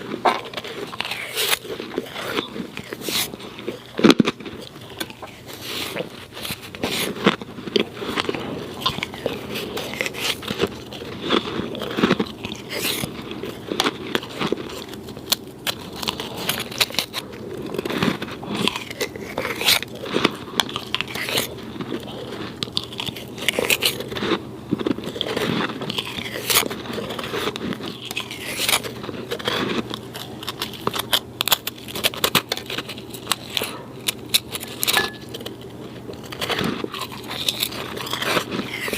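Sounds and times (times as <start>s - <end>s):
chewing snow crunches: 0.0s - 38.9s.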